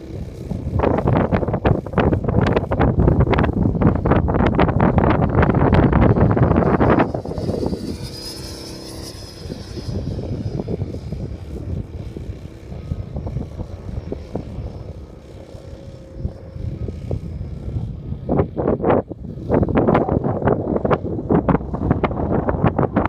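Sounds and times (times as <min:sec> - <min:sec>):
model airplane motor: 0:00.0 - 0:23.0
wind buffeting microphone: 0:00.0 - 0:23.0.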